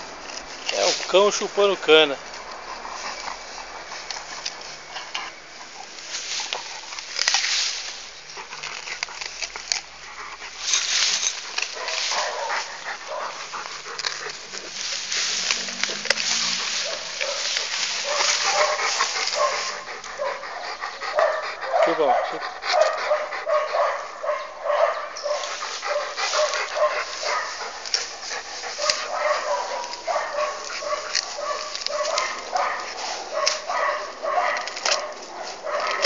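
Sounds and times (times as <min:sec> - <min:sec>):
dog chewing sugarcane: 0:00.0 - 0:36.0.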